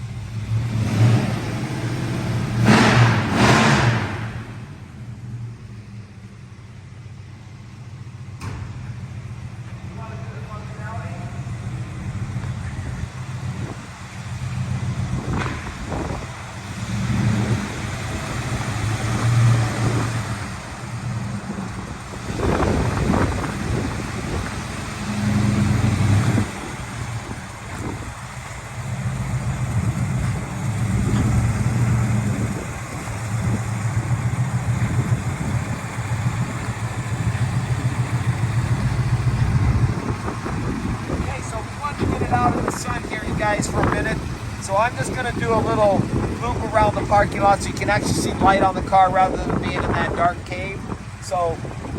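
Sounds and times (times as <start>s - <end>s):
car engine running at low revs: 0.0s - 51.9s.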